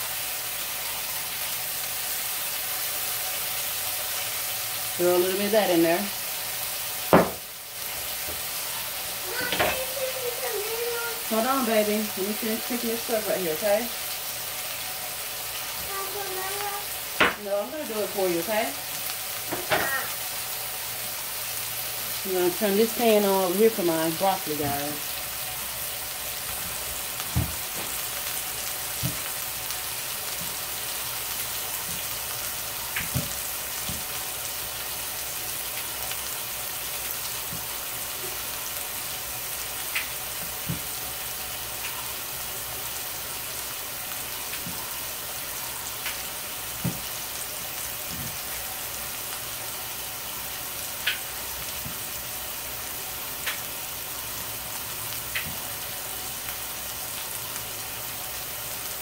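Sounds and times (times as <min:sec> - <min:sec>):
meat frying sizzle: 0:00.0 - 0:59.0.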